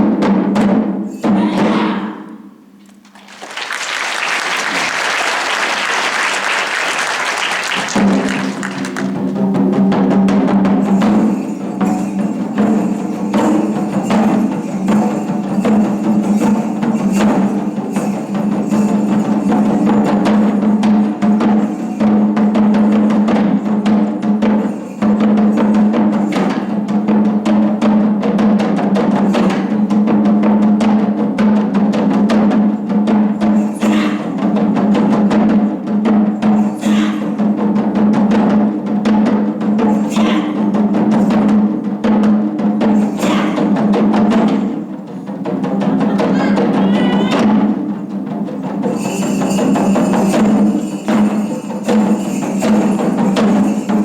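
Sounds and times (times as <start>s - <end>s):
taiko drums playing fast rhythm: 0.0s - 2.0s, 3.4s - 54.0s.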